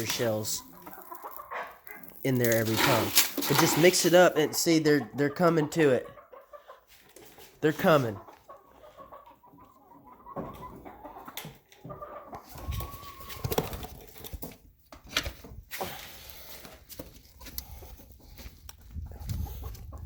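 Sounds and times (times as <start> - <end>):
chickens clucking: 0.0 - 14.8, 15.7 - 20.0.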